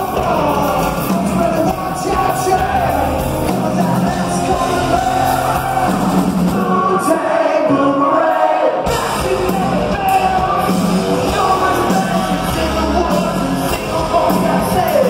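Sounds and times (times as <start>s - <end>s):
live rock band playing: 0.0s - 7.0s, 8.8s - 15.0s
person singing: 0.0s - 15.0s.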